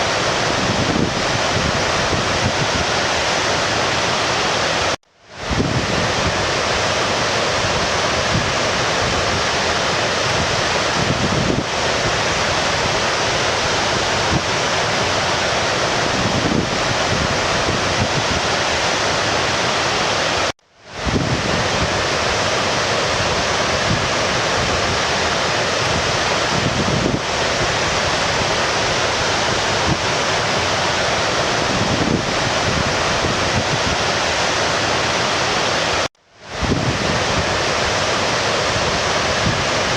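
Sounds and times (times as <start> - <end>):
stream flowing: 0.0 - 5.0, 5.6 - 20.5, 21.1 - 39.9.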